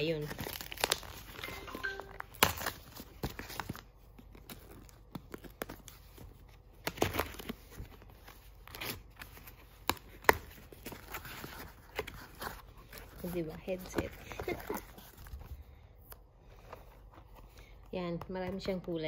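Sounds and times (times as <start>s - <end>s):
paper crinkling and rustling: 0.0s - 17.8s.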